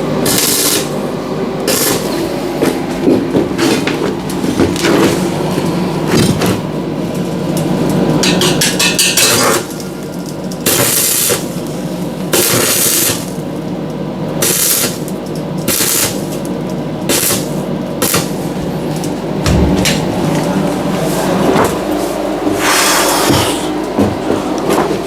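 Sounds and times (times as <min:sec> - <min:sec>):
welding arc crackling and hissing: 0:00.0 - 0:21.2, 0:21.8 - 0:23.9
steady low hum: 0:00.0 - 0:25.0.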